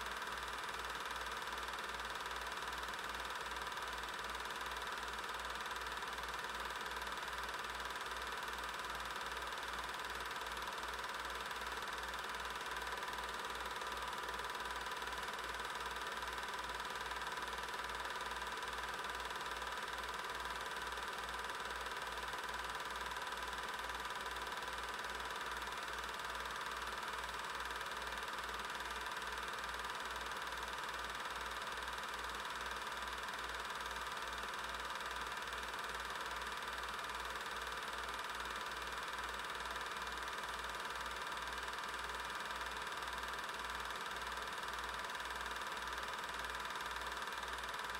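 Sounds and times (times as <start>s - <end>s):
film projector whirring: 0.0s - 47.9s.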